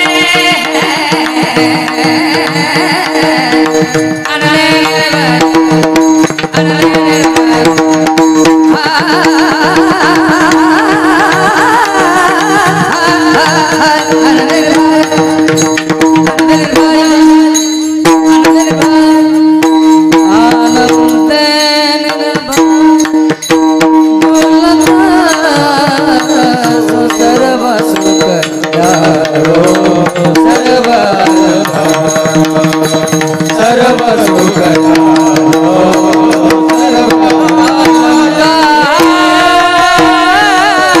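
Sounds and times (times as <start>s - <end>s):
rapid hand drum strokes: 0.0s - 41.0s.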